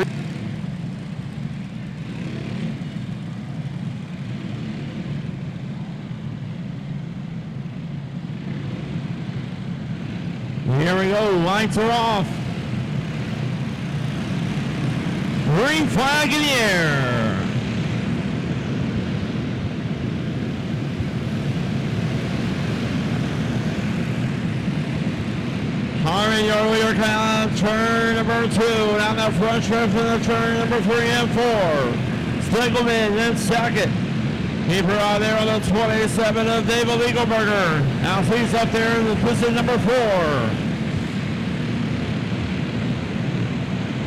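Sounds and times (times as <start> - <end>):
go-kart engines droning: 0.0 - 44.0.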